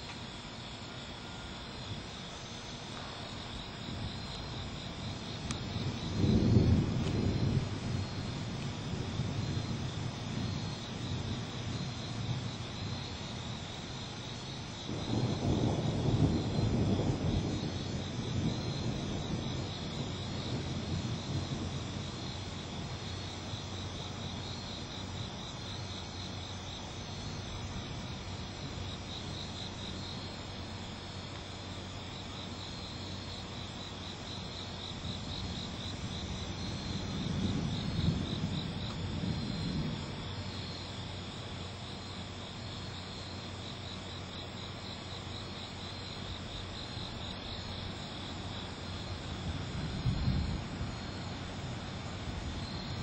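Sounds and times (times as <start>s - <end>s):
night insects chirping: 0.0s - 53.0s.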